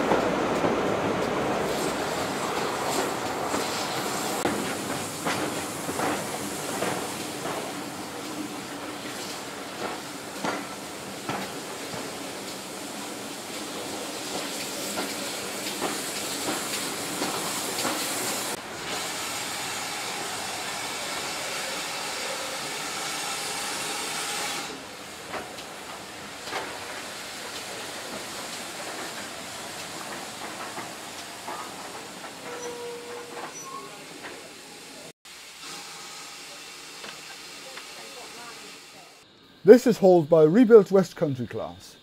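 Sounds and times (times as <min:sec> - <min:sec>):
steam train rolling: 0:00.0 - 0:42.0
loud steam hiss: 0:01.4 - 0:42.0.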